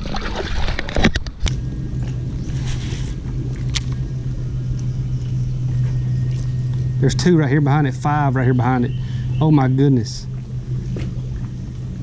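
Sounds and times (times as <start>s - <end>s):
electric trolling motor humming: 0.0s - 12.0s.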